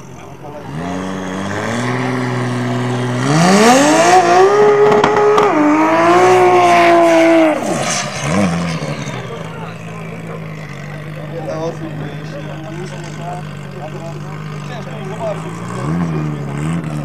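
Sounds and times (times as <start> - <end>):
car engine revving high: 0.5 - 17.0.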